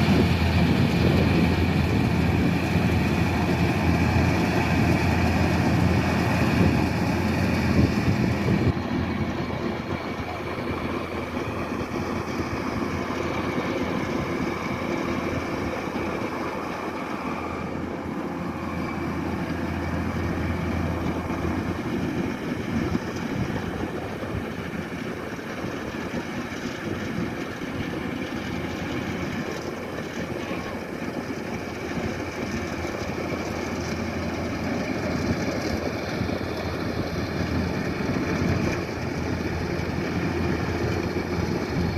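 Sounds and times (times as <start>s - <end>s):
combine harvester diesel drone: 0.0s - 41.9s.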